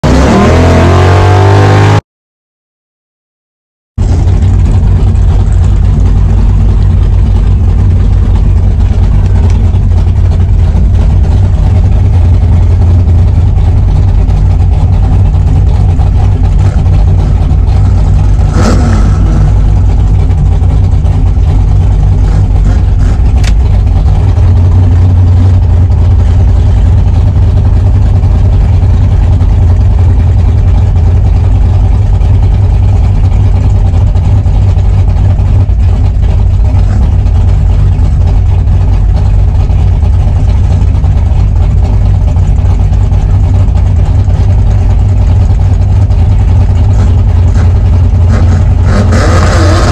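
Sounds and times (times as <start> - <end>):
car engine idling loudly: 4.0 - 49.9.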